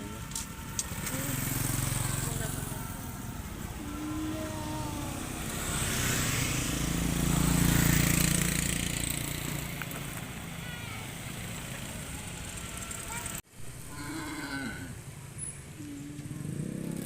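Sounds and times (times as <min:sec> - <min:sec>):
vehicle engine passing by: 0:00.0 - 0:13.4, 0:14.1 - 0:17.0.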